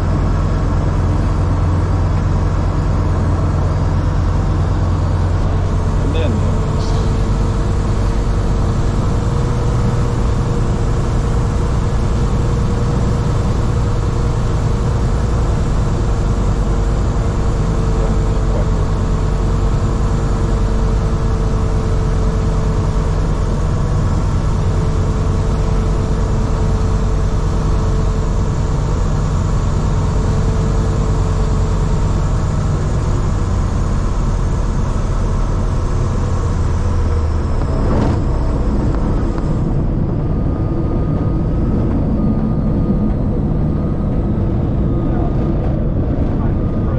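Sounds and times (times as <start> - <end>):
aircraft engine and propeller running: 0.0 - 46.9.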